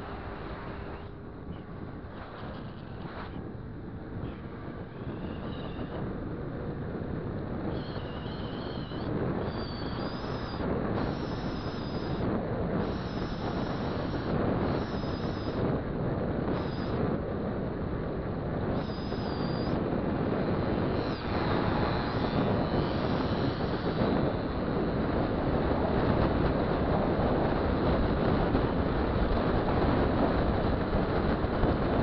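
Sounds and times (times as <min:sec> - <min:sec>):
vehicle engine noise: 0:00.0 - 0:32.0
wind and road noise: 0:00.0 - 0:32.0.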